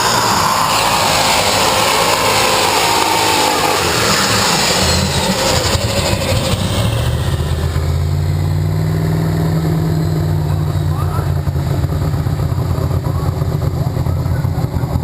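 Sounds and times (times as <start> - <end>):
turbo whine: 0.0 - 15.0.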